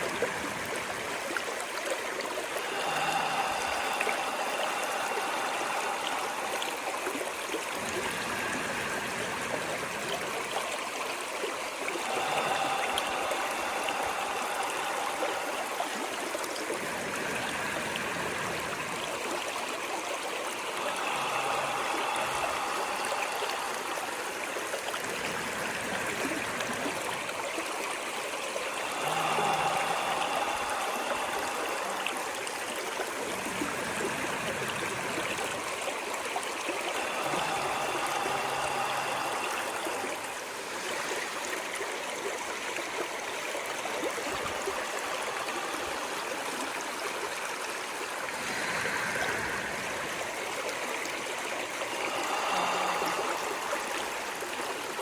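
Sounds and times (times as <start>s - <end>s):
water stream running: 0.0s - 55.0s.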